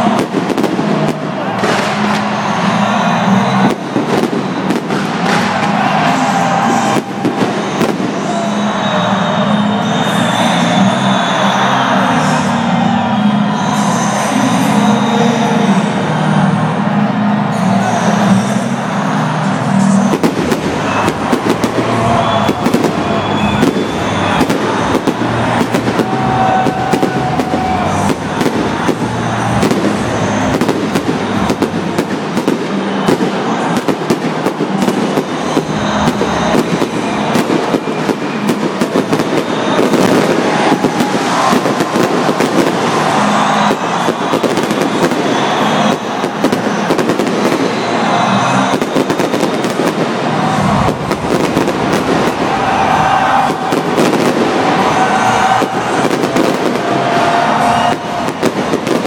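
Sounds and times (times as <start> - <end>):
fireworks crackling and banging: 0.0 - 11.8, 19.8 - 59.0.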